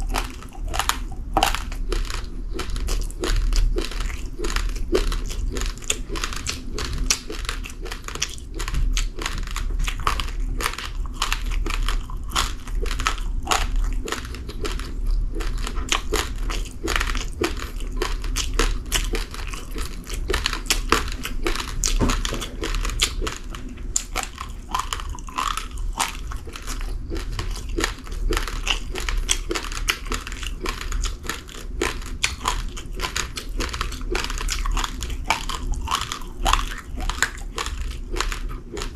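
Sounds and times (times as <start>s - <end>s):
rice grains crunching when chewed: 0.0s - 38.9s.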